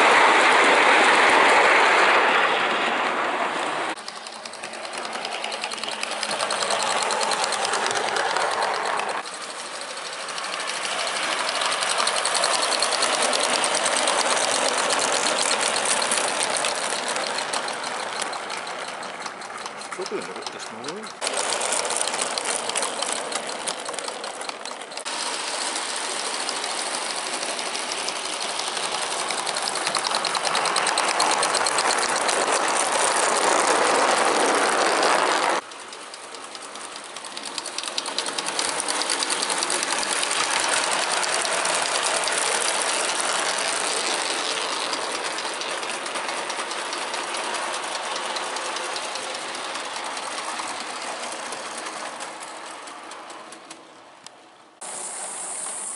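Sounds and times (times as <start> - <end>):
wheels clattering on rail: 0.0 - 54.9
steam exhaust beat: 4.0 - 53.8.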